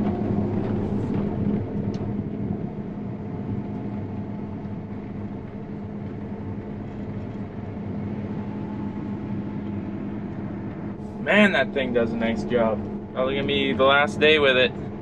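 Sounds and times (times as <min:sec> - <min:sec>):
harvester engine humming: 0:00.0 - 0:15.0.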